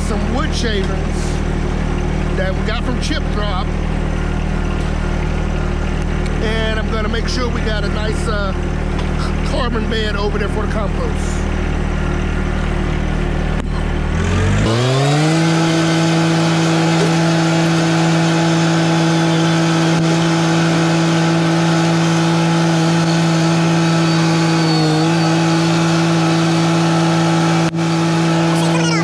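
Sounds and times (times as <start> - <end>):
tractor diesel engine revving: 0.0 - 29.0.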